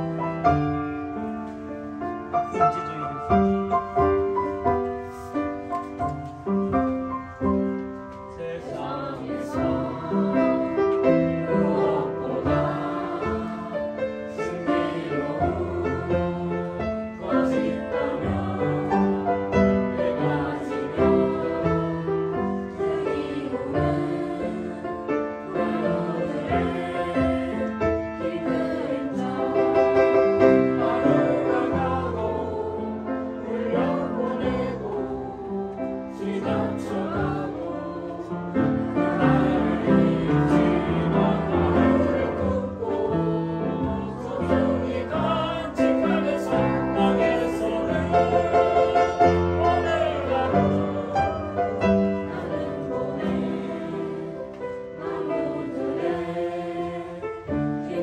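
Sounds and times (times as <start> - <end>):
upright piano accompaniment: 0.0 - 58.0
group of people singing: 8.2 - 58.0.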